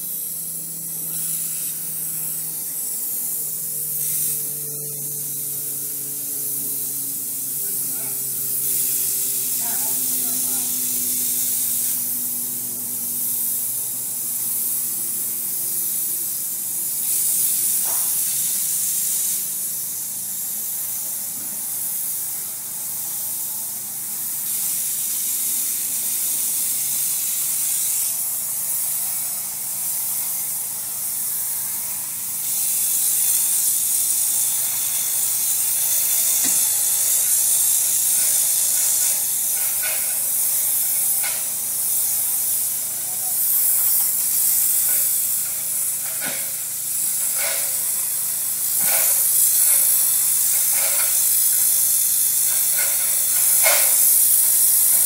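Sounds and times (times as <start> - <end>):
water spray hissing onto fabric: 0.0 - 20.0, 23.2 - 55.0.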